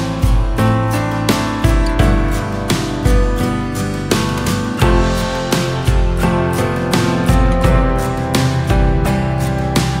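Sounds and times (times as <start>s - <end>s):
guitar strumming: 0.0s - 10.0s.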